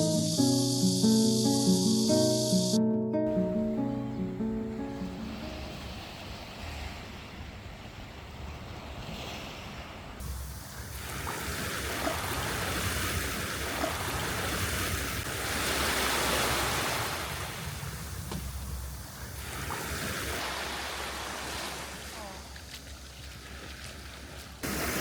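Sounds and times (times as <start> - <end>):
sea waves washing ashore: 0.0 - 25.0.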